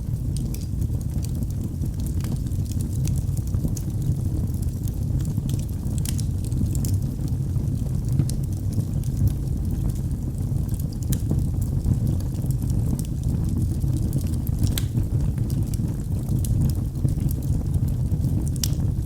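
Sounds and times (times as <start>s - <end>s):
fire crackling and popping: 0.0s - 19.0s
low rumble of fire flames: 0.0s - 19.0s.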